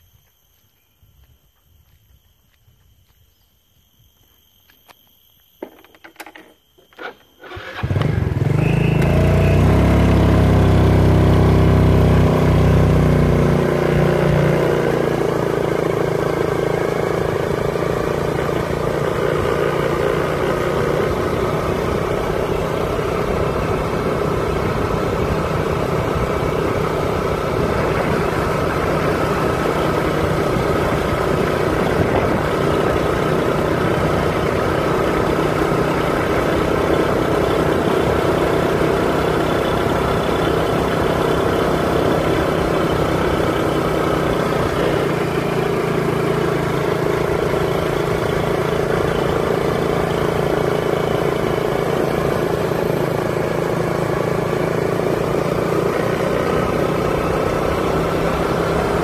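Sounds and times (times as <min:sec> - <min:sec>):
vehicle engine running: 0:06.8 - 0:59.0.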